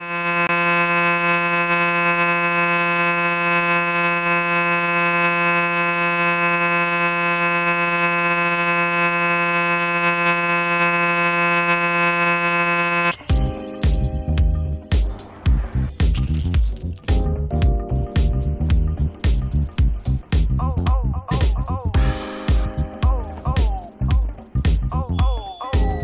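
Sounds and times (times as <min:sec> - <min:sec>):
electronic buzzing tone: 0:00.0 - 0:20.7, 0:22.0 - 0:26.0.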